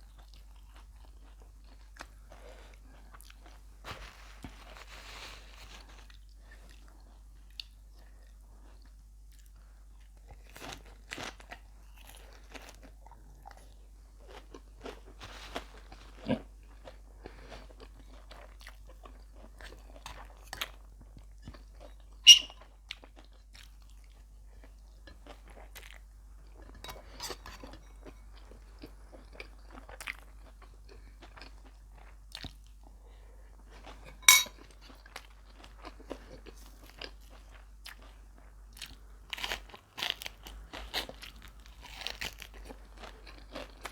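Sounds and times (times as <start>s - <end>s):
person chewing and crunching: 0.0s - 43.9s.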